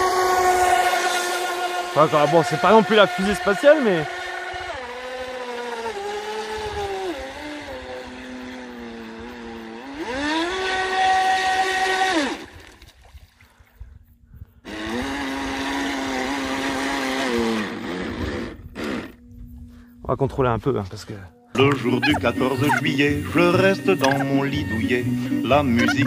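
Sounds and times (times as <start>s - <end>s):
boat motor whining: 0.0s - 12.6s, 14.6s - 19.9s, 21.3s - 26.0s.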